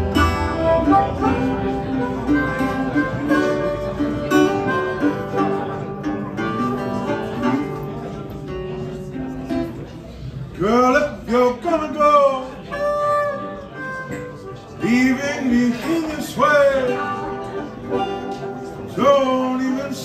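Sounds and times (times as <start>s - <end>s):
guitar plucking and strumming: 0.0s - 10.0s, 10.6s - 20.0s.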